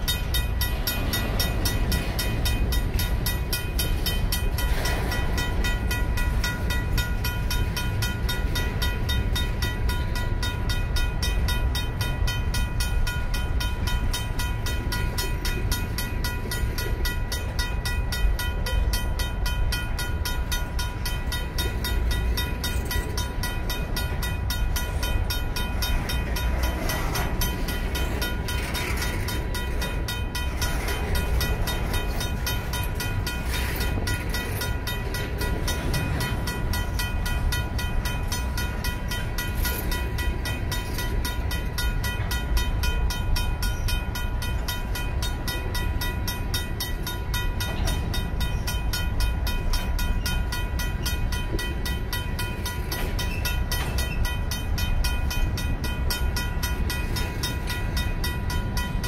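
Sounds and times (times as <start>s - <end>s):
crossing bell ringing: 0.0s - 59.0s
freight train rumbling past: 0.0s - 59.0s.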